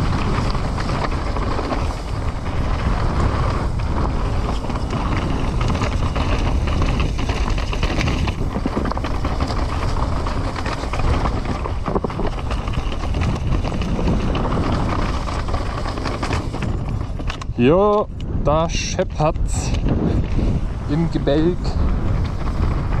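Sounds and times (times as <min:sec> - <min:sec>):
bike rattling and knocking: 0:00.0 - 0:23.0
bike tyres rolling over dirt: 0:00.0 - 0:23.0
wind rushing on microphone: 0:00.0 - 0:23.0.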